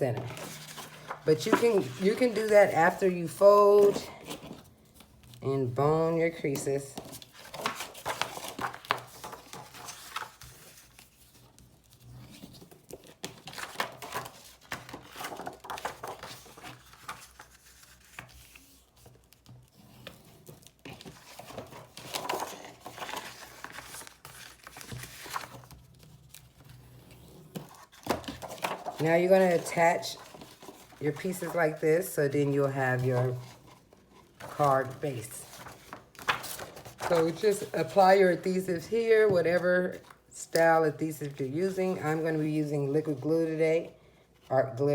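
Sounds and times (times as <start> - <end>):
paper rustling and crinkling: 0.0 - 5.4, 6.3 - 43.4.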